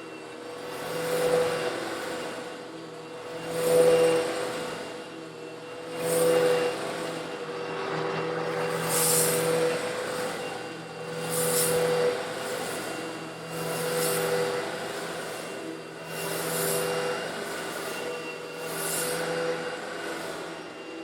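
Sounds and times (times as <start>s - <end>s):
grit hissing through vacuum: 0.0s - 21.0s
vacuum cleaner motor hum: 0.0s - 21.0s.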